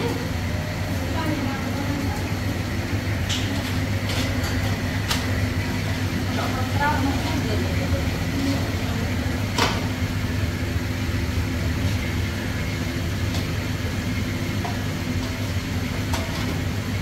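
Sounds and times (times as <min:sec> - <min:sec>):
kitchen equipment drone: 0:00.0 - 0:17.0.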